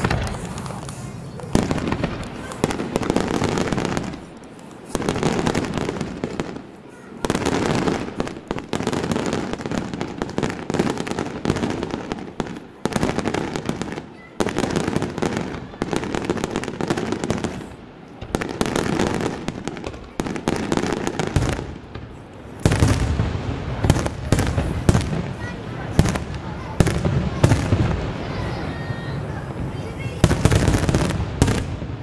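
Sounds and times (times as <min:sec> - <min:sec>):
deep fireworks booms: 0:00.0 - 0:32.0
fireworks bursting: 0:00.0 - 0:32.0.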